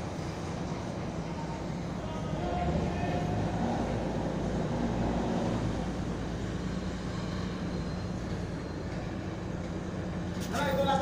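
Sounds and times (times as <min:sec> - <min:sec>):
marine diesel engine droning: 0:00.0 - 0:11.0.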